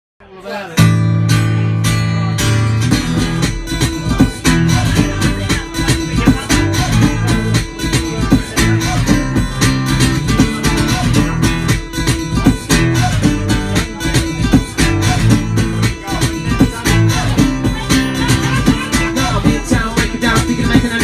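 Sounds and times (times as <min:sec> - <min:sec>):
acoustic guitar strumming: 0:00.5 - 0:21.0.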